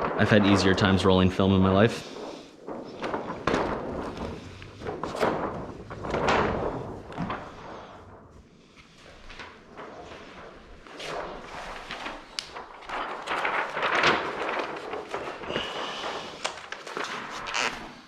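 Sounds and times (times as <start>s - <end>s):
plastic film rustling and crinkling: 0.0s - 18.0s.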